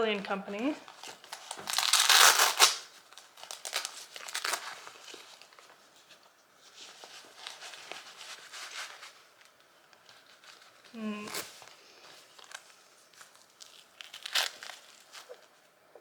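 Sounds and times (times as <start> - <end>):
packaging crinkling and rustling: 0.0 - 15.8.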